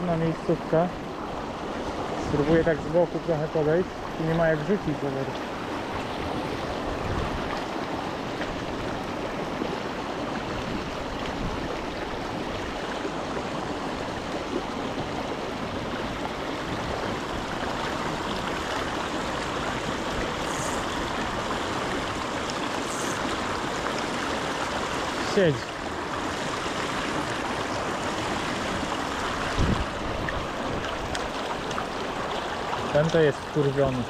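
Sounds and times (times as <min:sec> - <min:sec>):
stream babbling: 0:00.0 - 0:34.0.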